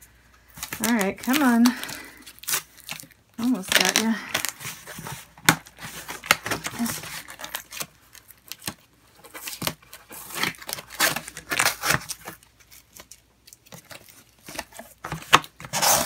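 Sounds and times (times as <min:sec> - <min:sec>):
packing tape peeling and tearing: 0:00.5 - 0:08.8, 0:09.4 - 0:16.0.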